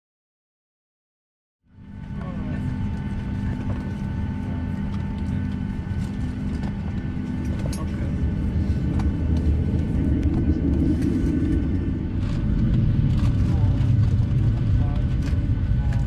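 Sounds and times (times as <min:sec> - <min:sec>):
jet engines rumbling: 0:01.7 - 0:16.0.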